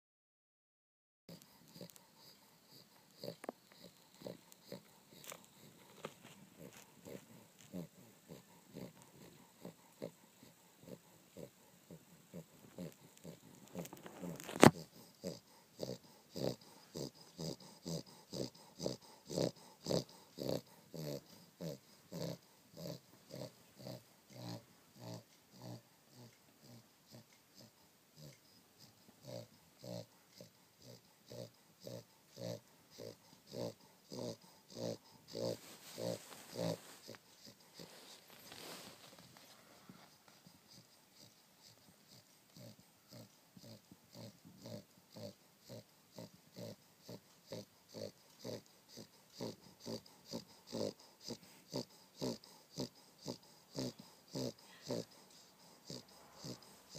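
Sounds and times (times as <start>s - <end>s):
dog snoring: 1.3s - 56.9s.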